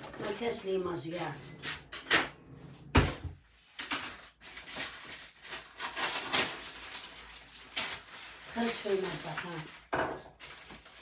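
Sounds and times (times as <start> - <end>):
kitchen items rubbing and scraping: 0.0 - 6.5, 7.9 - 11.0.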